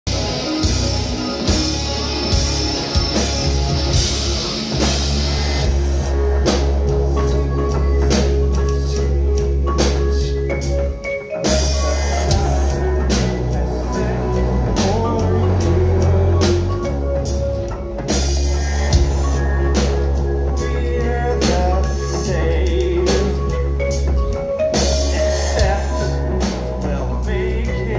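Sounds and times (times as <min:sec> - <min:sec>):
bass guitar: 0:00.0 - 0:27.9
drum kit: 0:00.0 - 0:27.9
electric guitar: 0:00.1 - 0:27.9.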